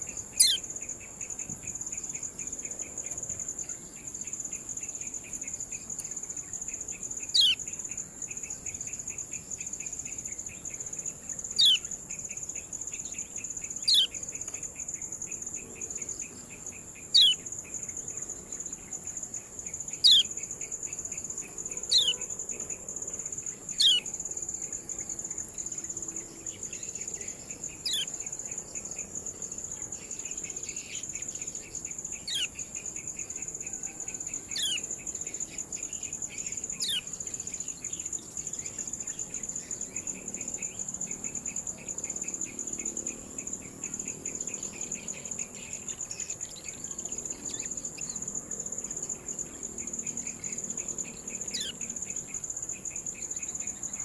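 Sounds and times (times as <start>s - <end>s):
high-pitched insect drone: 0.0s - 2.6s, 3.6s - 16.1s, 16.7s - 54.0s.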